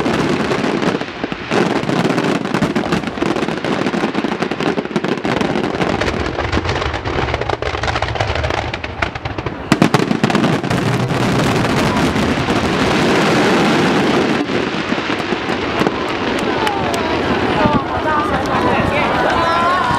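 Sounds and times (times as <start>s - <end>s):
fireworks crackling and popping: 0.0s - 19.9s
fireworks sharp bangs: 0.0s - 19.9s.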